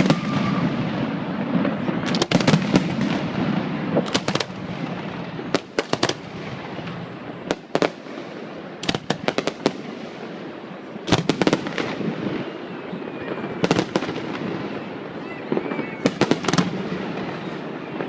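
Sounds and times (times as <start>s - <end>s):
crowd rumble: 0.0s - 18.0s
fireworks cracks and bangs: 0.0s - 18.0s.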